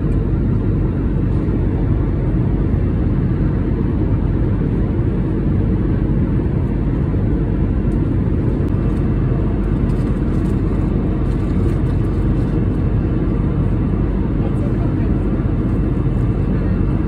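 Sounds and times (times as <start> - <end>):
jet engines and airflow drone: 0.0 - 17.0.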